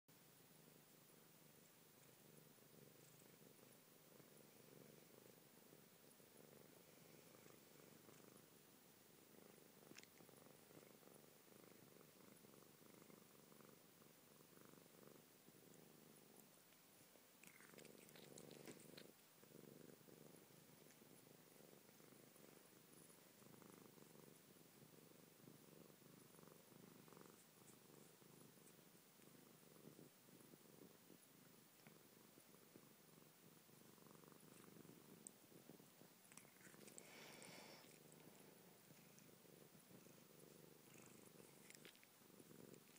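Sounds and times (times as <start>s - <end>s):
cat purring: 0.2s - 42.9s.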